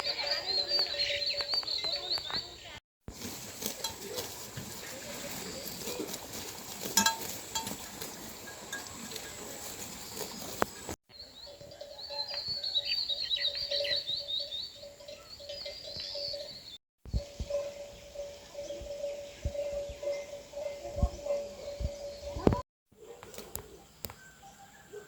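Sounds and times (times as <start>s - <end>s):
small birds twittering: 0.0s - 25.0s.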